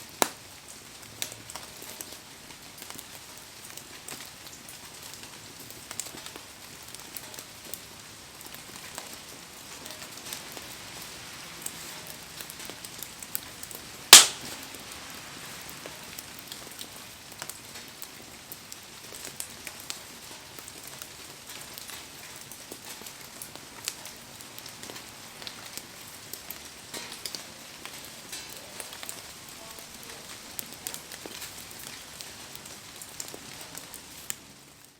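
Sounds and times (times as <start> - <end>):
rain pattering: 0.0 - 34.9
wood fire crackling and popping: 0.0 - 34.9.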